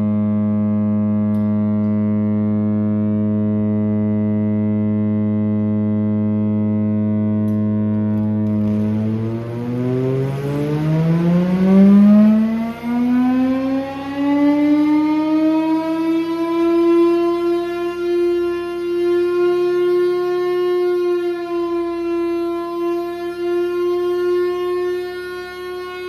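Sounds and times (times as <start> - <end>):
air raid siren winding up: 1.2 - 26.0.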